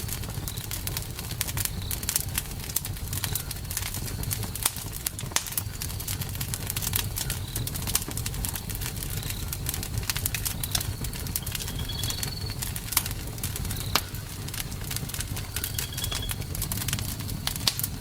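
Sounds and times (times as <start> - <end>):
campfire crackling and popping: 0.0 - 18.0
low rumble of flames: 0.0 - 18.0.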